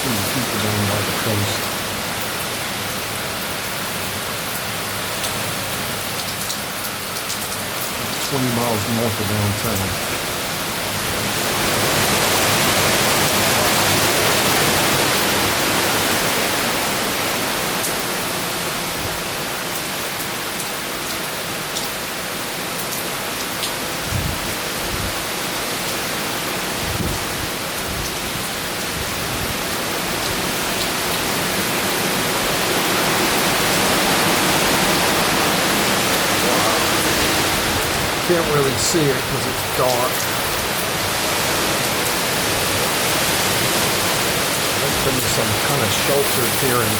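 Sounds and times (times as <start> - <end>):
wind-driven rain hissing: 0.0 - 46.9.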